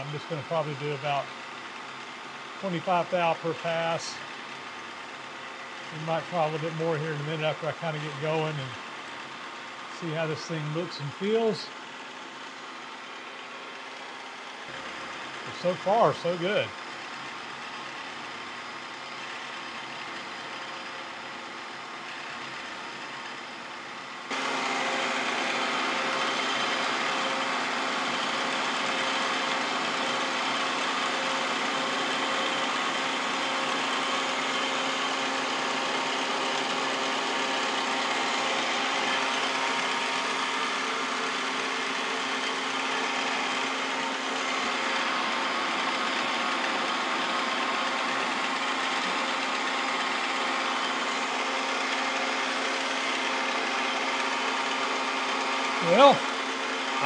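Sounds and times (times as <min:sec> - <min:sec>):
milling machine cutting metal: 0:00.0 - 0:57.0.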